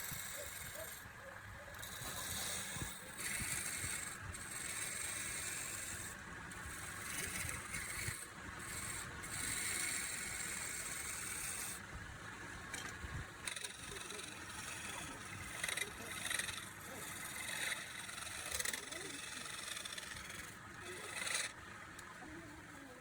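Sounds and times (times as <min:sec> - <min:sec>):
turning tool cutting spinning wood: 0:00.0 - 0:11.9, 0:12.6 - 0:23.0
lathe motor rumble: 0:01.7 - 0:23.0.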